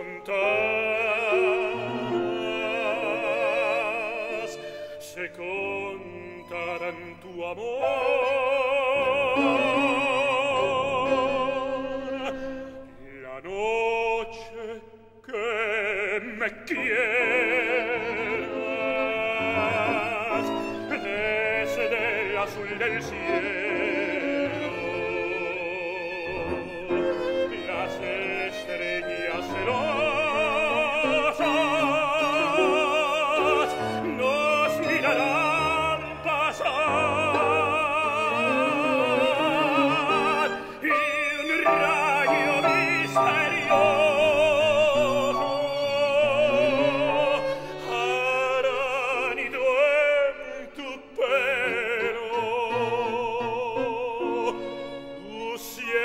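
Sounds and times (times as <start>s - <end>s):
grand piano: 0.0s - 56.0s
tenor singing operatically: 0.0s - 56.0s
violin: 0.0s - 56.0s.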